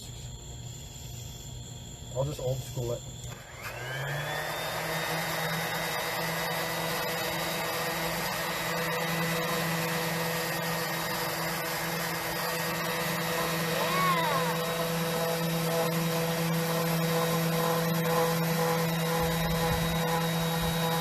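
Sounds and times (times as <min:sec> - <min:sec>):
electric sander whining: 0:03.2 - 0:21.0.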